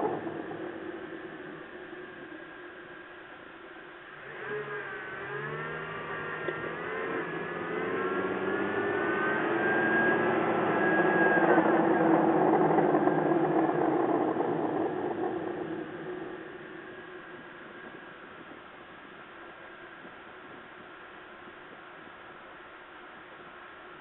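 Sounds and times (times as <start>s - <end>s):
road noise: 0.0s - 20.1s
engine and drivetrain whine: 0.0s - 22.2s.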